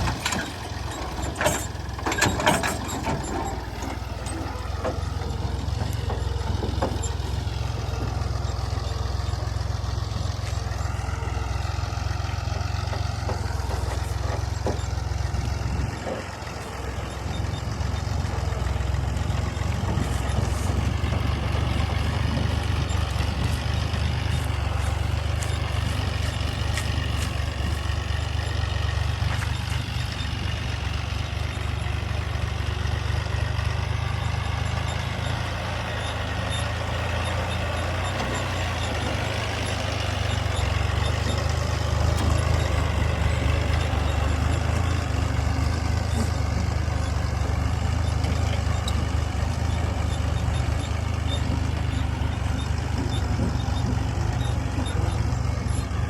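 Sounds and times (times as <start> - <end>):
diesel machinery engine humming: 0.0 - 56.0.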